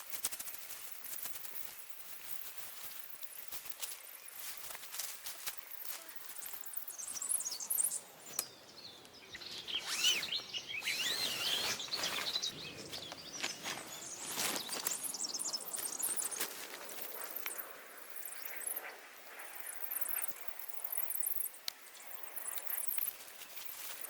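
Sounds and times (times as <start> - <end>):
small birds chirping: 0.8 - 24.0.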